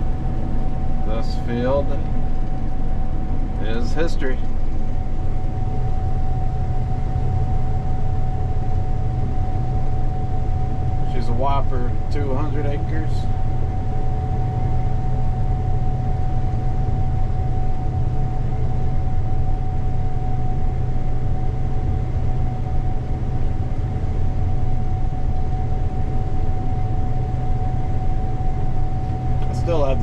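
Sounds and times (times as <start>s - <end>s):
low engine drone: 0.0s - 30.0s
steady high whine: 0.0s - 30.0s.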